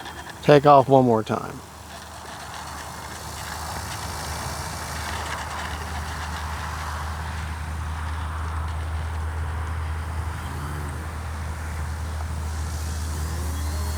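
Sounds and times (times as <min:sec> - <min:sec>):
electric plane propeller whirring: 0:00.0 - 0:13.9.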